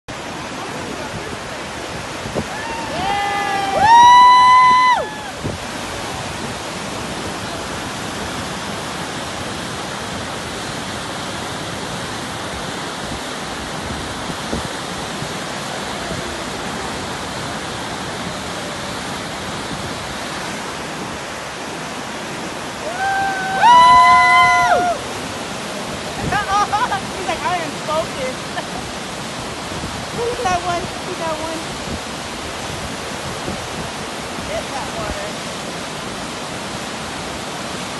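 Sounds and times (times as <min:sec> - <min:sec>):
whitewater rapids rushing: 0:00.1 - 0:37.9.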